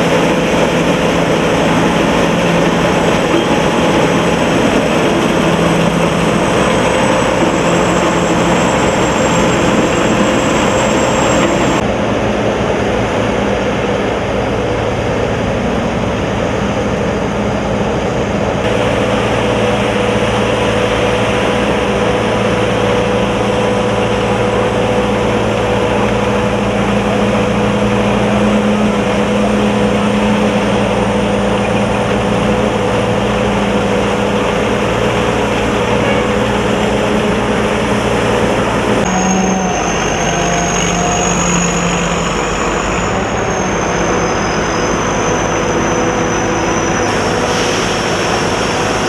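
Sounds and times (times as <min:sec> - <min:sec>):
combine harvester engine drone: 0:00.0 - 0:49.0.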